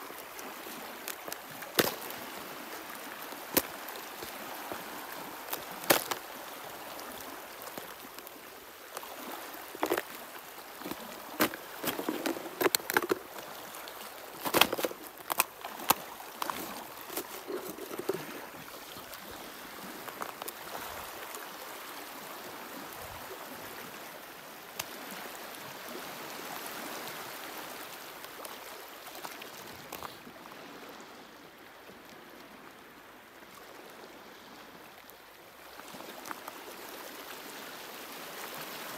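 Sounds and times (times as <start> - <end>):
water splashes and slaps: 0.0 - 31.0, 31.8 - 38.9
small waves lapping: 0.0 - 38.9.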